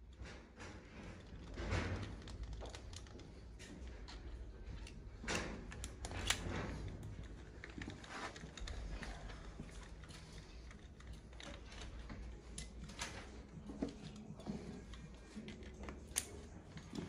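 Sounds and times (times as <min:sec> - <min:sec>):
metal clicks and scrapes: 0:00.1 - 0:17.0.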